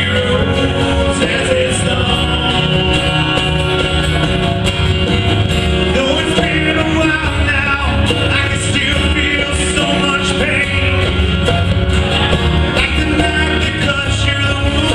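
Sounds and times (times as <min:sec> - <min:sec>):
live band playing country-rock: 0:00.0 - 0:14.9.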